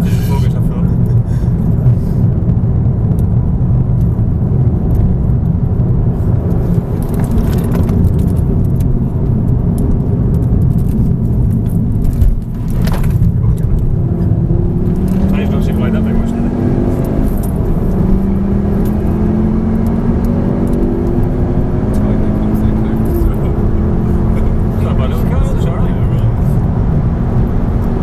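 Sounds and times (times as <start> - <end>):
car engine under load: 0.0 - 28.0
road noise: 0.0 - 28.0.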